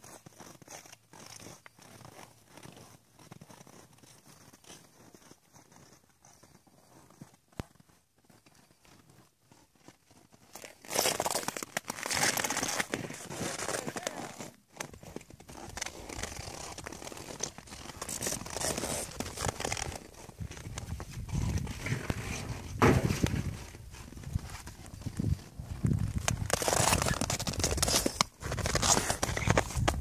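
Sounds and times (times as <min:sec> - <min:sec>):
rustling and crunching: 0:00.0 - 0:30.0.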